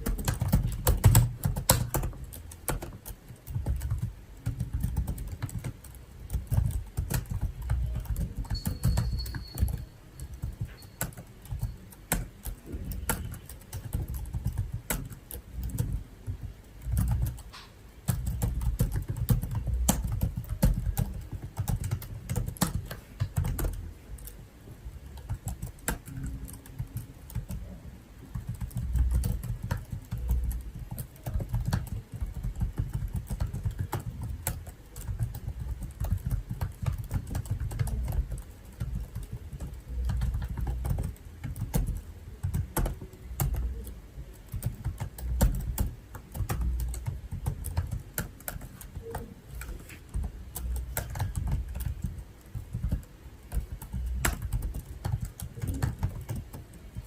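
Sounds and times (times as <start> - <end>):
typing on computer keyboard: 0.0 - 57.0.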